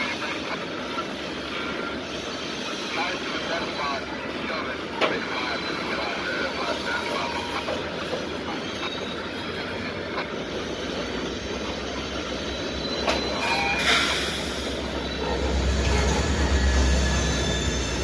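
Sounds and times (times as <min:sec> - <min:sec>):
train rumbling and clattering on rails: 0:00.0 - 0:18.0
train wheels squealing: 0:00.0 - 0:18.0.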